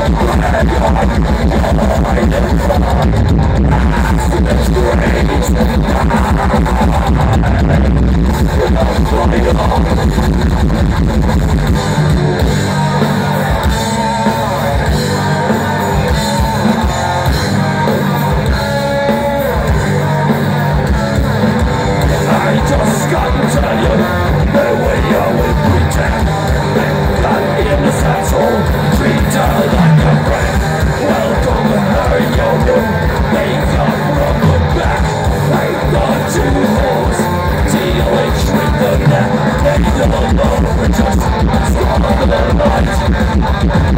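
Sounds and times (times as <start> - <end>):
person singing: 0.0 - 10.4, 12.0 - 43.9
bass: 0.0 - 43.9
distorted electric guitars: 0.0 - 43.9
pounding drums: 0.0 - 43.9.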